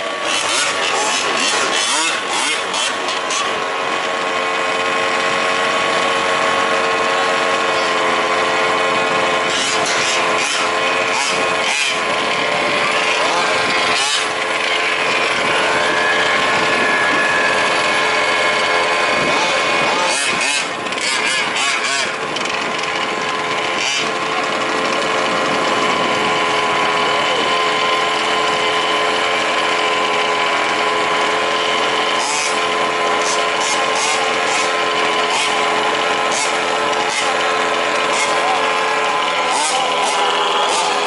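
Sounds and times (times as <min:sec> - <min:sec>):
small two-stroke engines buzzing: 0:00.0 - 0:41.0.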